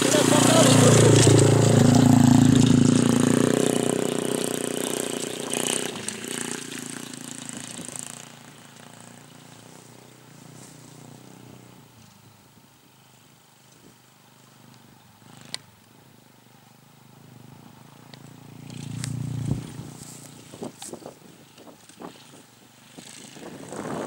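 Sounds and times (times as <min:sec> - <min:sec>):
dirt bike passing by: 0:00.0 - 0:12.6, 0:14.3 - 0:16.2, 0:16.8 - 0:24.0.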